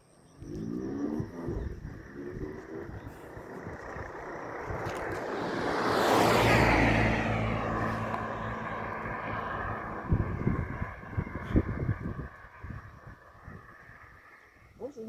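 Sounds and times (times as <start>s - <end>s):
vehicle driving past: 0.6s - 14.6s.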